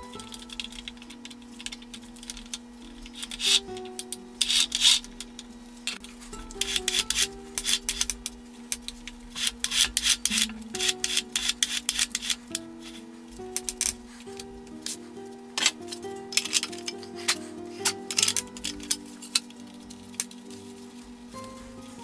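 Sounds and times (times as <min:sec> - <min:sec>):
quiet background music: 0:00.0 - 0:22.0.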